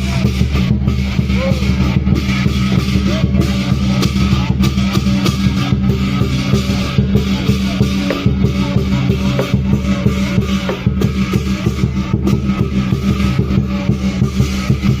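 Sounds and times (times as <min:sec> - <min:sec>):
loud music with drum hits: 0:00.0 - 0:15.0.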